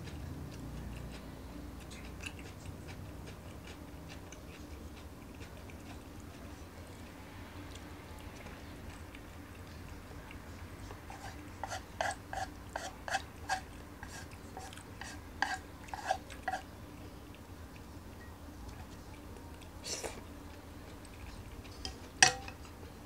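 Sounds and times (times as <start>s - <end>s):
man chewing: 0.0s - 23.0s.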